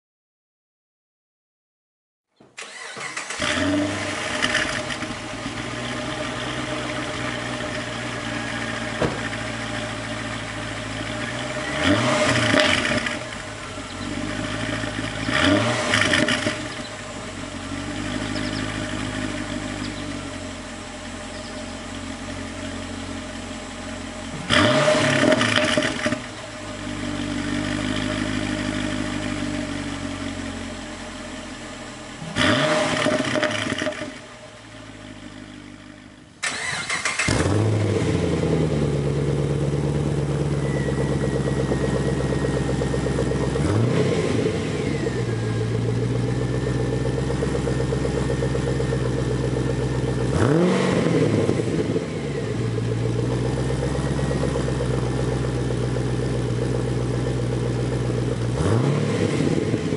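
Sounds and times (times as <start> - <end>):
car engine starting: 2.5 - 59.9
engine idling and revving: 2.6 - 59.9.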